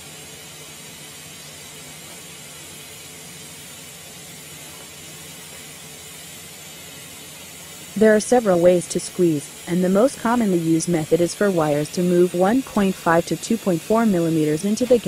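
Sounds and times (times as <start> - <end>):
low hum: 0.0 - 15.0
welding arc hissing: 0.0 - 15.0.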